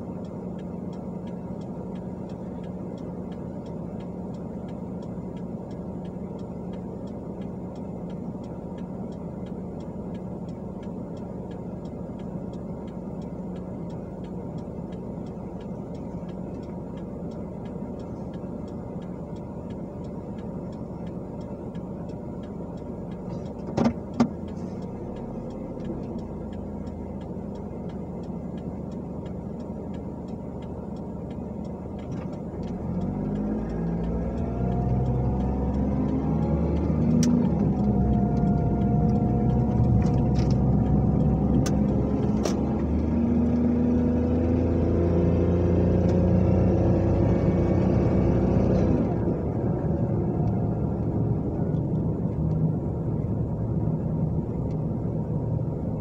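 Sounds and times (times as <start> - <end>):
car engine idling and accelerating: 0.0 - 56.0
road rumble: 0.0 - 56.0
sharp clicks: 0.1 - 53.3.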